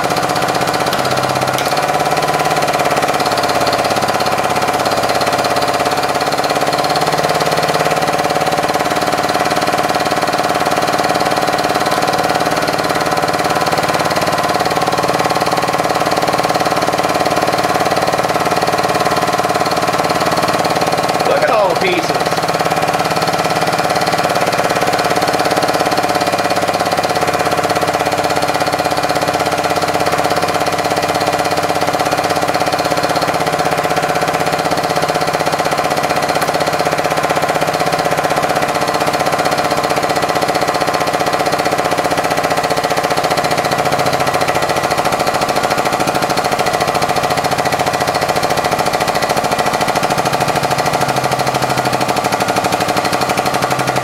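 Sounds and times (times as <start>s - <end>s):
hydraulic press pump humming: 0.0s - 54.0s.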